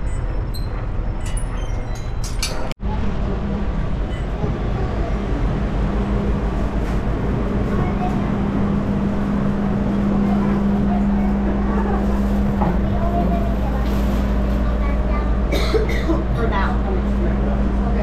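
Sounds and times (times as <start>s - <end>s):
funicular car hum and rumble: 0.0s - 18.0s
traffic noise: 0.0s - 18.0s
crowd noise: 2.8s - 18.0s.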